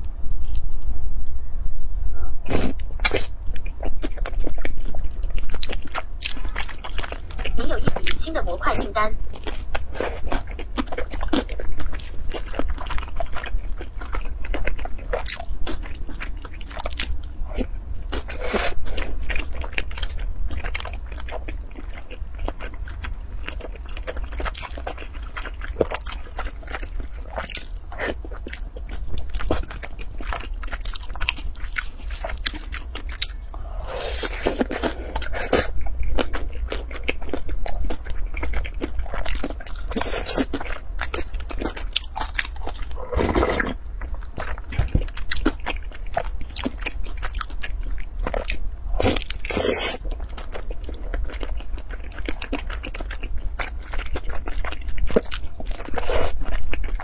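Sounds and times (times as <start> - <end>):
person chewing crunchy food: 2.4 - 57.0.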